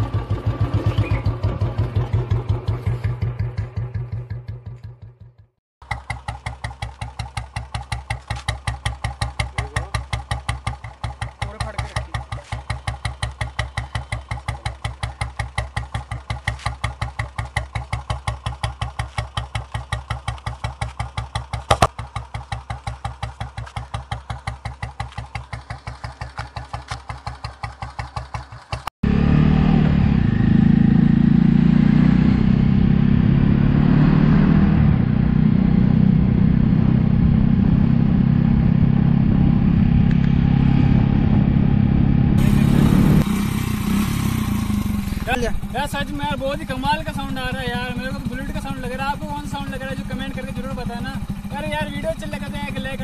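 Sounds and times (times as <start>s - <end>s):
motorcycle engine idling: 0.0s - 28.9s, 38.4s - 53.0s
motorcycle engine while riding: 0.0s - 53.0s.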